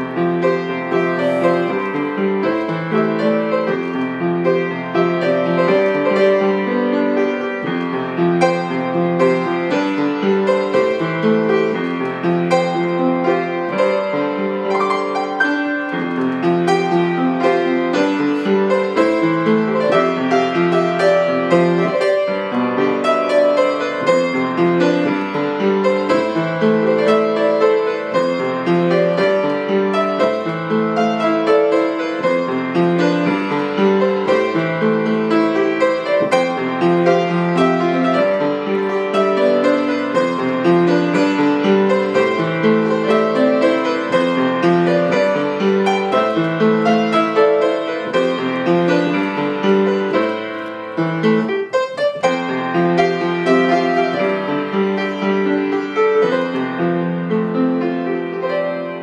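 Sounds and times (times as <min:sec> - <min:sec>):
piano playing chords and melody: 0:00.0 - 0:59.0.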